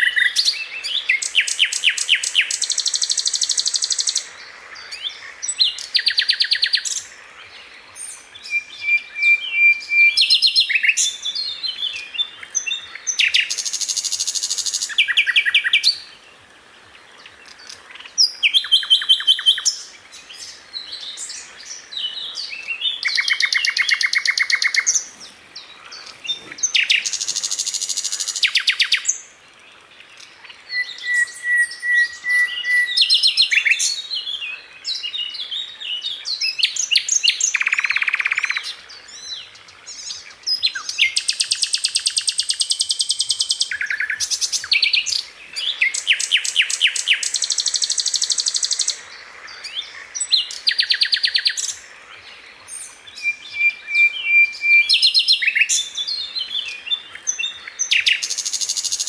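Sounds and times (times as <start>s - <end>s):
bird singing trills and chirps: 0.0s - 59.0s.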